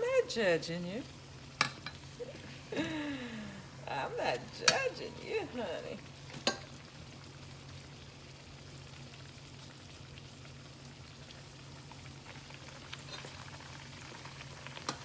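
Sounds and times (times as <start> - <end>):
dough frying in hot oil: 0.0 - 15.0
small crackles: 1.5 - 15.0.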